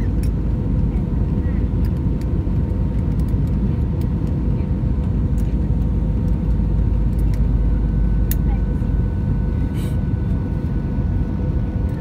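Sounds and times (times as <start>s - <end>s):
jet engine cabin roar: 0.0s - 12.0s.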